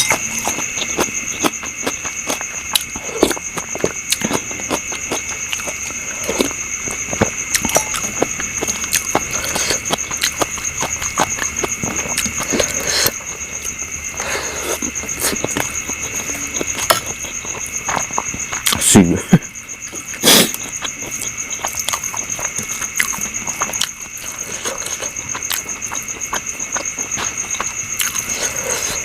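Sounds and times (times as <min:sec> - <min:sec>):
chewing with wet crunches: 0:00.0 - 0:29.0
insects trilling: 0:00.0 - 0:29.0.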